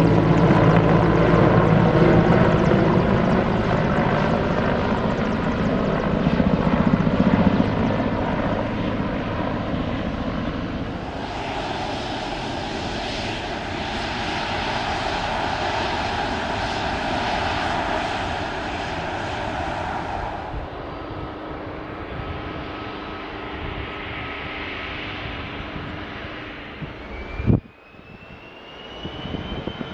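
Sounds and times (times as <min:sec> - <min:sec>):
airliner engine rumble: 0:00.0 - 0:29.9.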